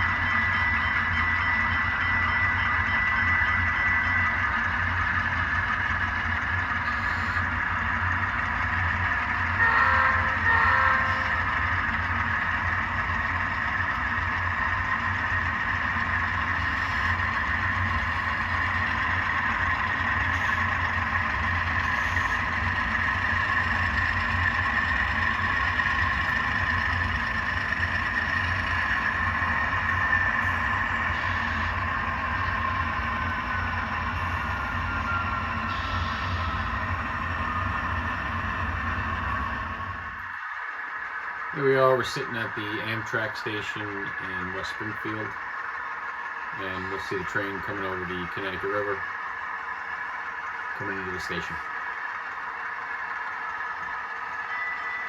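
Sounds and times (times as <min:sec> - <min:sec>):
model diesel engine sound from speakers: 0:00.0 - 0:55.0.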